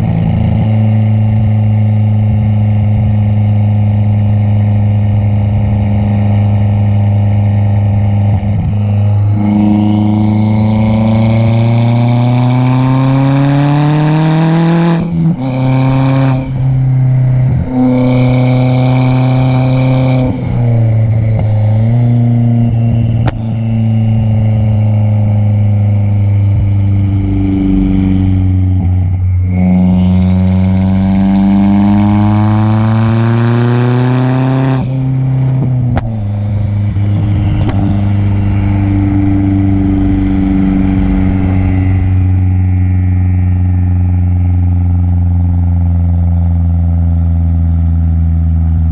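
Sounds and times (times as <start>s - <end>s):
car engine accelerating through gears: 0.0s - 48.9s.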